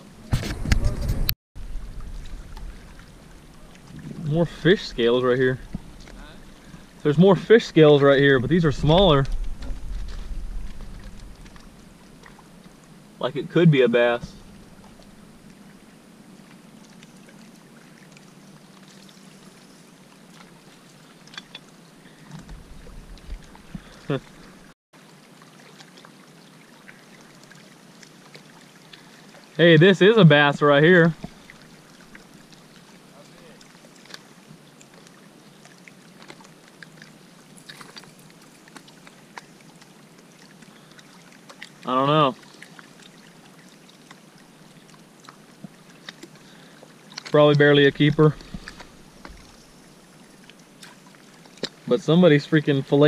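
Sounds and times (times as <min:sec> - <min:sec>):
small waves lapping on rocks: 0:01.6 - 0:53.0.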